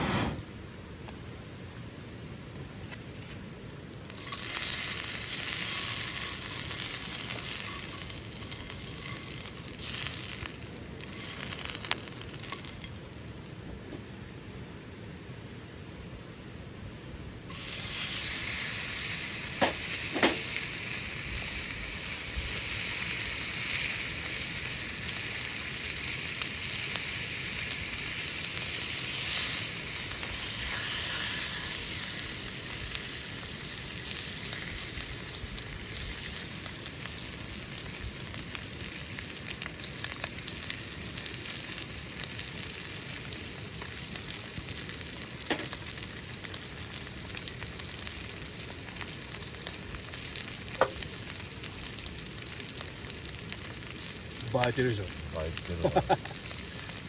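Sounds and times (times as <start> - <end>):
steak sizzling over fire: 0.0 - 0.4, 3.8 - 13.6, 17.5 - 57.0.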